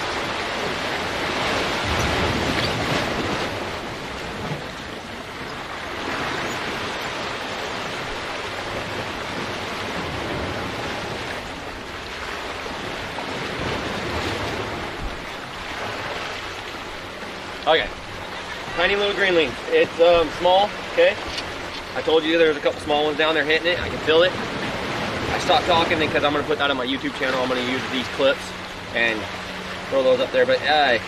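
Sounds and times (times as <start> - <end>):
waves breaking against rocks: 0.0 - 31.0.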